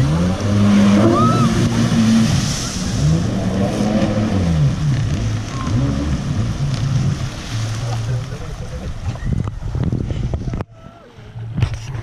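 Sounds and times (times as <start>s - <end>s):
jet ski engine revving: 0.0s - 10.4s.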